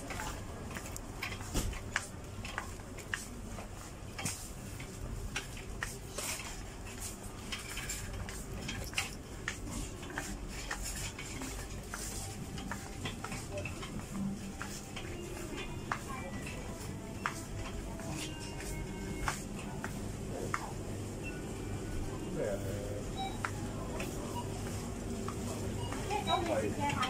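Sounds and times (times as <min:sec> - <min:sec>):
shopping trolley rattling: 0:00.0 - 0:20.9, 0:22.7 - 0:27.0.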